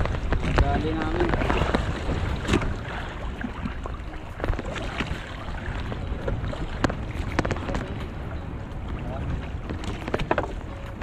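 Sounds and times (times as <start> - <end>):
water washing around boat: 0.0 - 11.0
wind buffeting microphone: 0.0 - 11.0.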